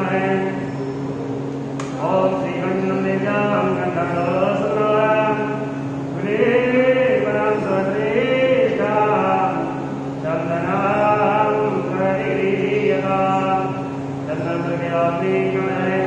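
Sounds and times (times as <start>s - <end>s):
mantras chanted: 0.0s - 16.0s
steady low hum: 0.0s - 16.0s.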